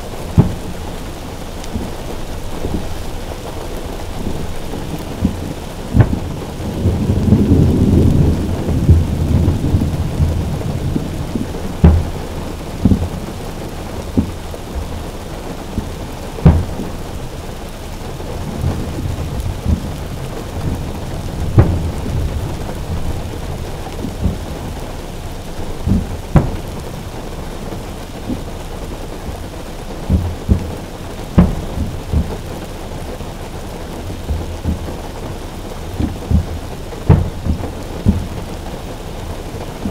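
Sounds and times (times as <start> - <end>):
long low rumble: 0.0 - 39.9
rain drumming on car roof: 0.0 - 39.9.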